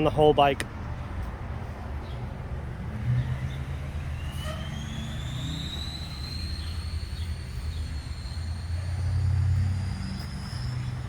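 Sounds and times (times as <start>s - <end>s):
vehicle engine humming: 0.0s - 11.0s
high whine rising in pitch: 2.1s - 11.0s.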